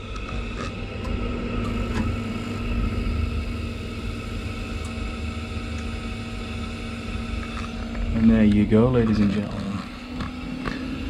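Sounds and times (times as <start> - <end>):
boiler fan humming: 0.0 - 11.0.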